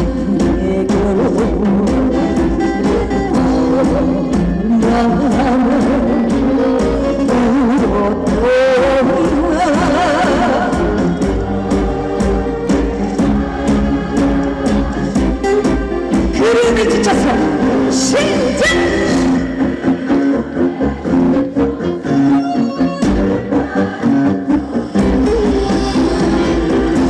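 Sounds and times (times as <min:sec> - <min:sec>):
woman singing with vibrato: 0:00.0 - 0:21.1, 0:23.4 - 0:27.0
backing track music: 0:00.0 - 0:27.0.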